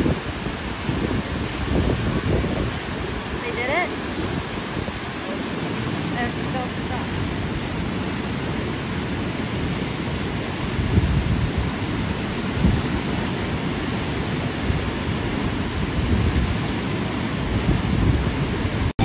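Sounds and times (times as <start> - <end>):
rapids roaring: 0.0 - 19.0.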